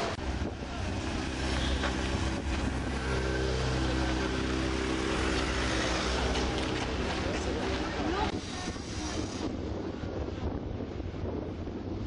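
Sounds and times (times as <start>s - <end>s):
constant rushing noise: 0.0s - 12.0s.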